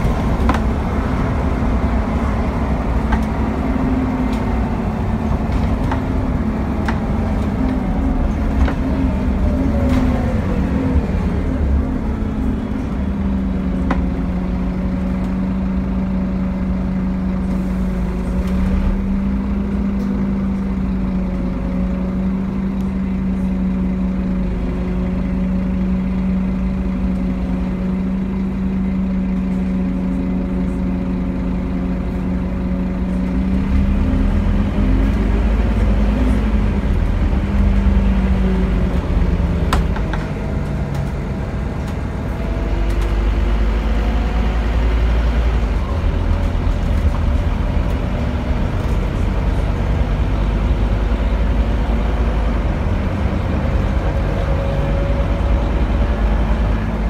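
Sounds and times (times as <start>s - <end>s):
bus engine whine: 0.0s - 57.0s
low road rumble: 0.0s - 57.0s.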